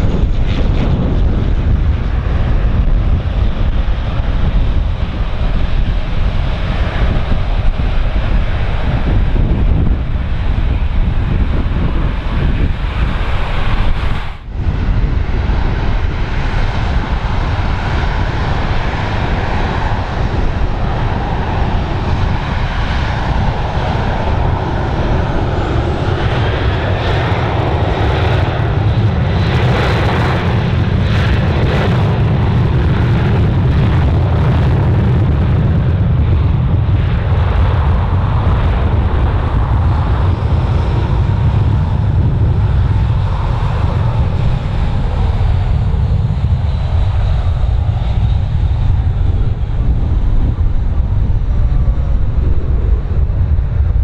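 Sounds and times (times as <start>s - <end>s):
airliner engines running: 0.0s - 54.0s
wind buffeting microphone: 0.0s - 54.0s.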